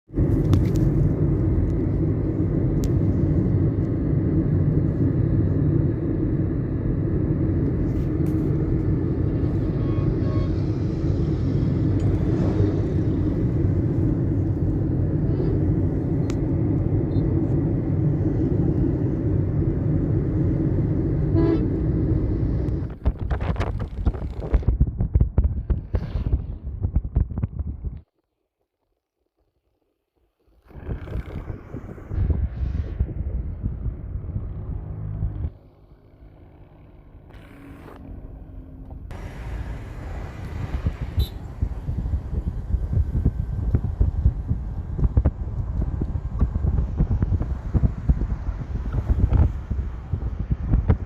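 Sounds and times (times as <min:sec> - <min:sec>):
wind noise on microphone: 0:00.1 - 0:28.2, 0:30.4 - 0:35.6, 0:39.1 - 0:51.0
motor vehicle rumble: 0:00.1 - 0:28.4, 0:29.0 - 0:51.0.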